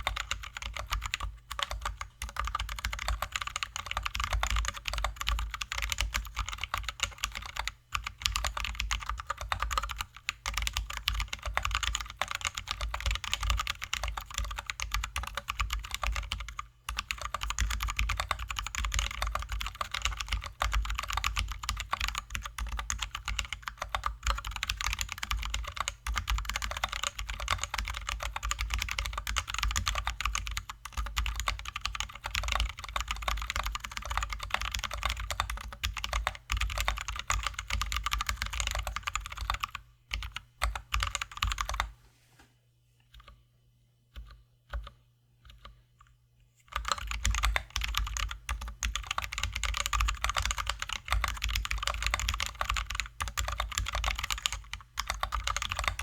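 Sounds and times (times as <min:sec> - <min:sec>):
mechanical keyboard typing: 0:00.0 - 0:41.9, 0:46.7 - 0:56.0.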